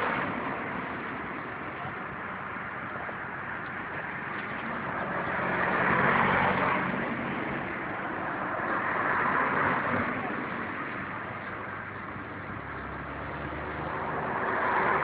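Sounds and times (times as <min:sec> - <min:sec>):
low engine hum: 0:00.0 - 0:15.0
vehicles driving past: 0:00.0 - 0:15.0.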